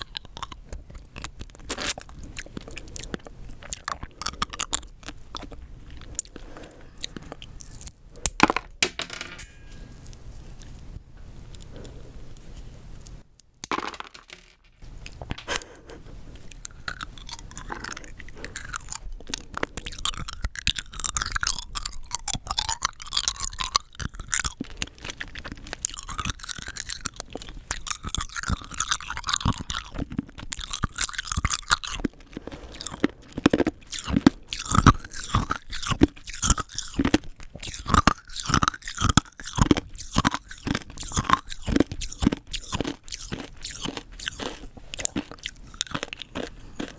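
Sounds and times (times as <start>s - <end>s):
rock candy crunching: 0.0s - 8.8s, 13.6s - 46.9s.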